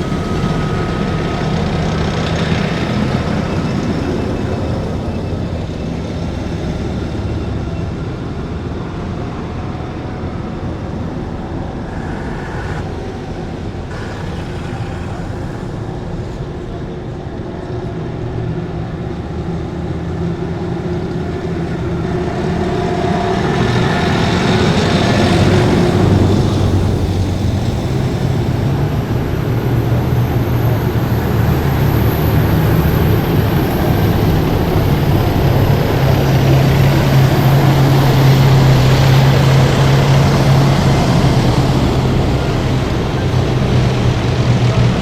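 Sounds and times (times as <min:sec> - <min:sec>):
heavy vehicle engines droning: 0:00.0 - 0:45.0.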